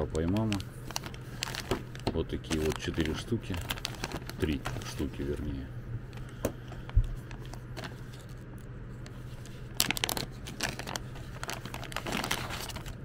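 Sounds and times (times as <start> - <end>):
plastic bags crinkling: 0.0 - 13.0
steady low hum: 0.0 - 13.0.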